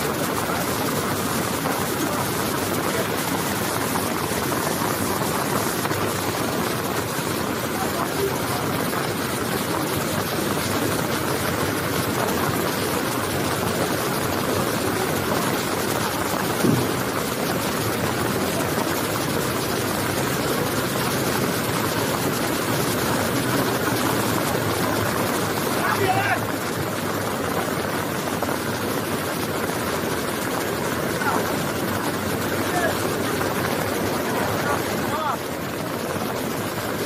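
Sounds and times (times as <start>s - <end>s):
diesel engine running: 0.0s - 37.0s
floodwater rushing: 0.0s - 37.0s.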